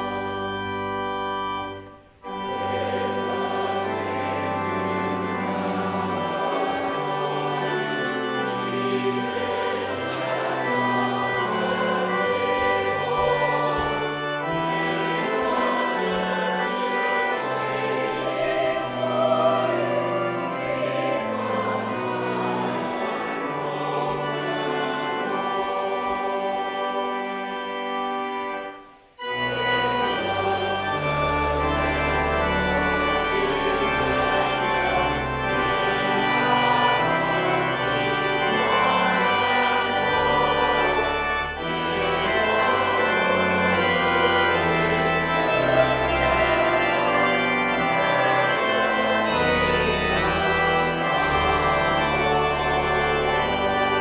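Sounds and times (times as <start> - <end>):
choir and congregation singing hymn: 0.0 - 54.0
organ: 0.0 - 54.0.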